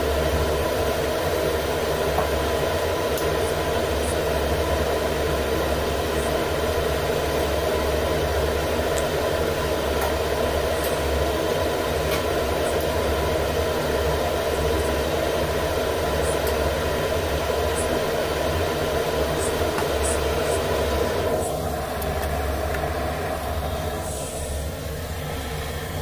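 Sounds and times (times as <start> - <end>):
fan whirring hum: 0.0 - 26.0.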